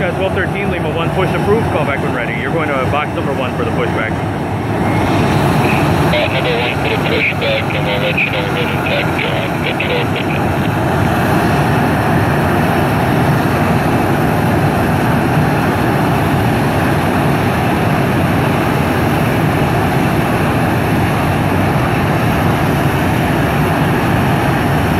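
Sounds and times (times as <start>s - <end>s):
jet engine roar: 0.0s - 24.9s.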